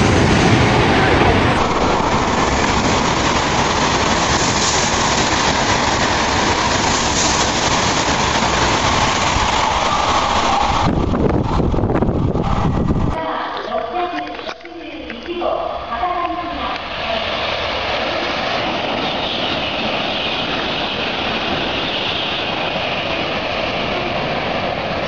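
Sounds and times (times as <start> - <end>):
train passing at high speed: 0.0 - 13.2, 15.7 - 25.0.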